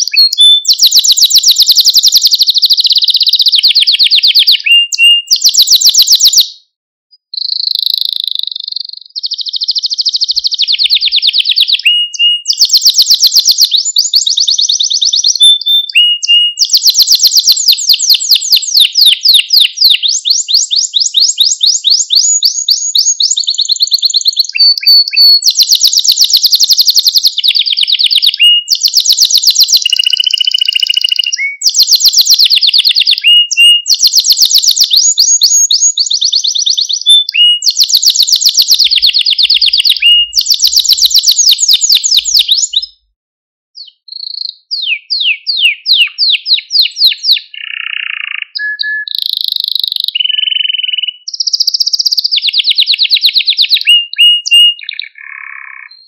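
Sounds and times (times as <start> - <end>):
canary singing trills: 0.0 - 43.1, 43.8 - 56.0.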